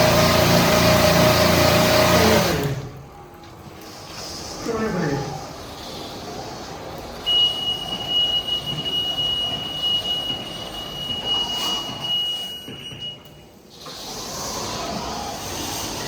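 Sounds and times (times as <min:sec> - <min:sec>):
car wash machine noise: 0:00.0 - 0:16.0.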